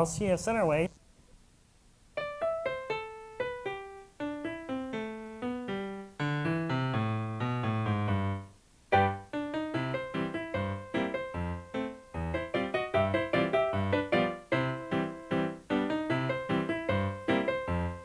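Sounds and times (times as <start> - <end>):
slow piano notes and chords: 2.2 - 18.0.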